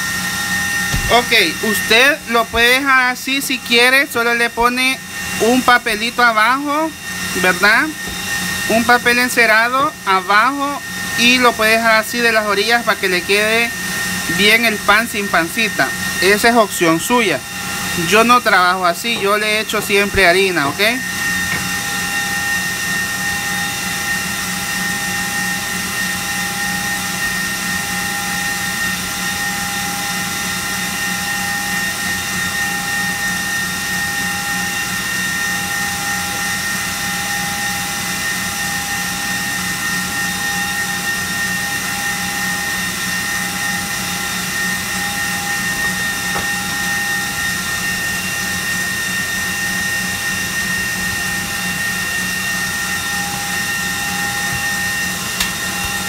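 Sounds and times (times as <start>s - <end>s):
electric mixer whining: 0.0s - 56.0s.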